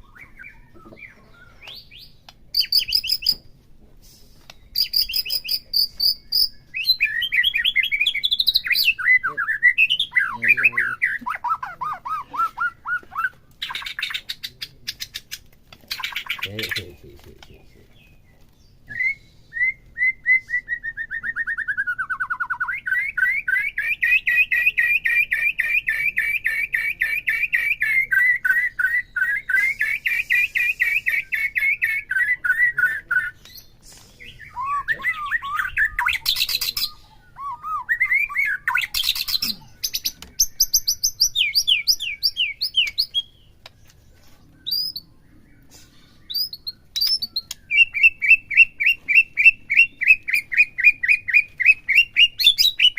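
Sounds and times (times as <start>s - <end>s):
songbird singing trills: 0.0s - 3.5s, 4.3s - 52.9s.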